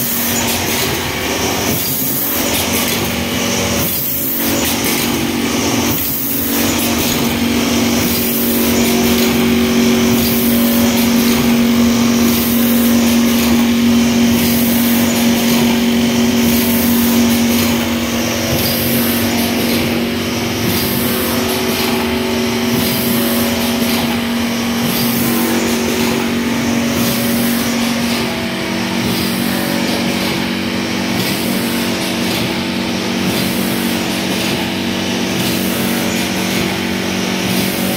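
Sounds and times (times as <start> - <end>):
machine humming with cycling beat: 0.0 - 37.9.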